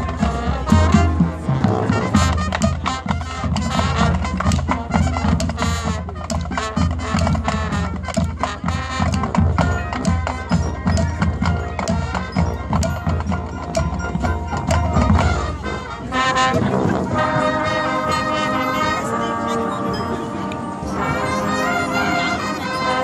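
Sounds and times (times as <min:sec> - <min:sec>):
marching band percussion: 0:00.0 - 0:23.0
wind section held chords: 0:00.0 - 0:23.0.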